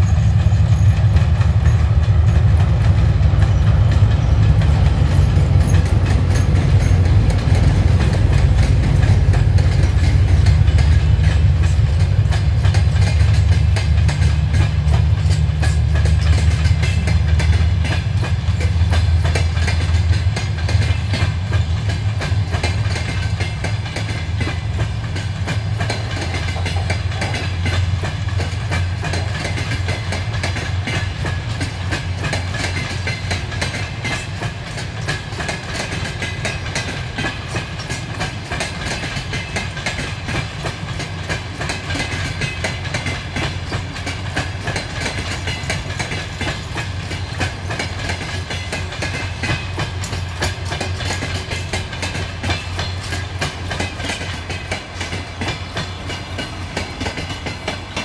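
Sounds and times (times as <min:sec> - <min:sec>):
low train rumble: 0:00.0 - 0:58.0
train wheels clicking on rail joints: 0:00.0 - 0:58.0.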